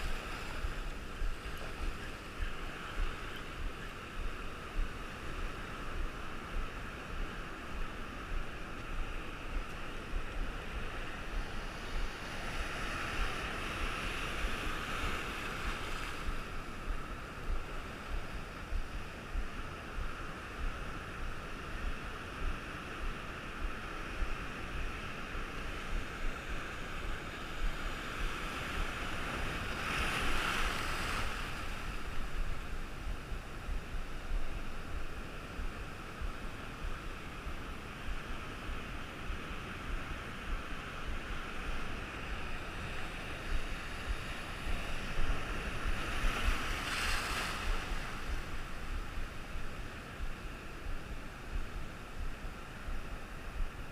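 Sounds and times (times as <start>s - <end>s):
sea surf breaking on shore: 0.0s - 53.8s
wind buffeting microphone: 0.0s - 53.9s.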